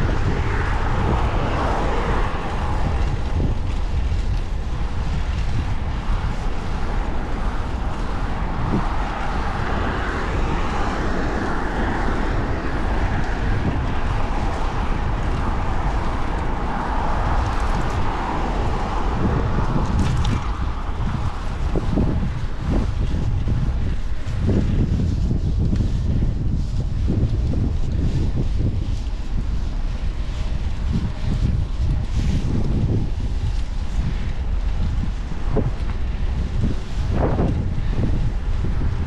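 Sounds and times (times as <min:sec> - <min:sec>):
road noise: 0:00.0 - 0:39.0
wind buffeting on microphone: 0:00.0 - 0:39.0.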